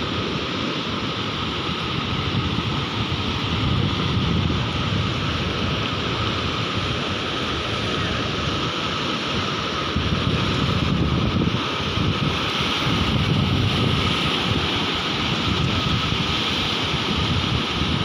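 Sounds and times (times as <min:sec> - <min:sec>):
surf rushing: 0:00.0 - 0:18.0.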